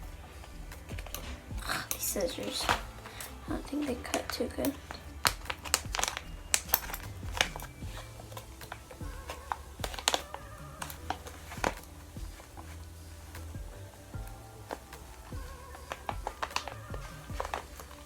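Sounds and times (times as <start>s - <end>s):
plastic bag crinkling: 1.1s - 18.0s.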